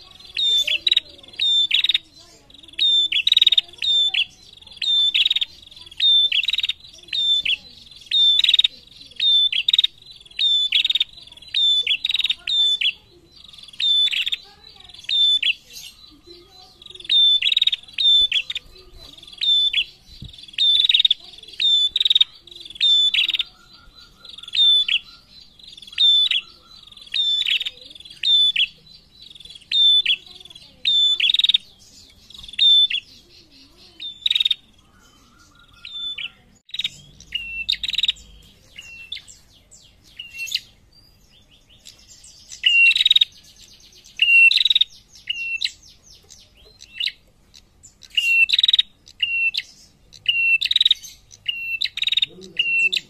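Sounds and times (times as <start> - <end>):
bird chirping sharply: 0.0 - 53.0.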